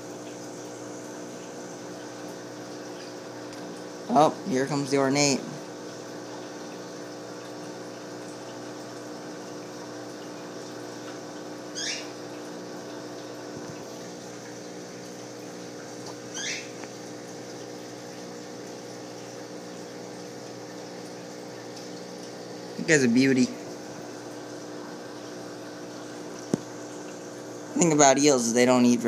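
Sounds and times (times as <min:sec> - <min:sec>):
aquarium pump humming: 0:00.0 - 0:29.0.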